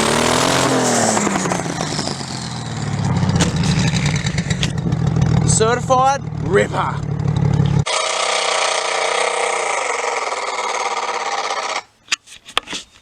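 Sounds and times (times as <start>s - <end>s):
car engine at high revs: 0.0s - 11.4s.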